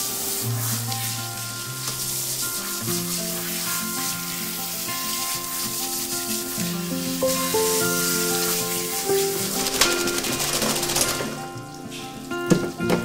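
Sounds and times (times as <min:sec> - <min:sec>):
shower head spraying water: 0:00.0 - 0:12.8
background music of held notes: 0:00.0 - 0:13.0.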